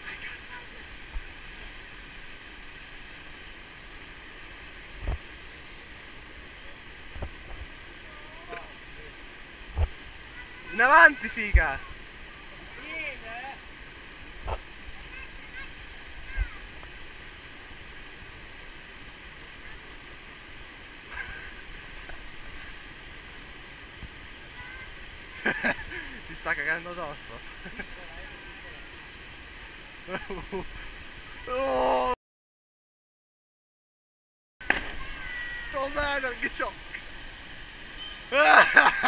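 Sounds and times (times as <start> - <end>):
waterfall rushing hiss: 0.0 - 32.2, 34.6 - 39.0.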